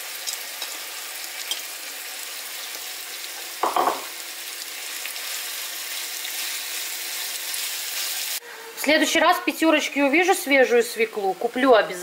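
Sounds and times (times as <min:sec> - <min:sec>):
vegetables sizzling in frying pan: 0:00.0 - 0:12.0.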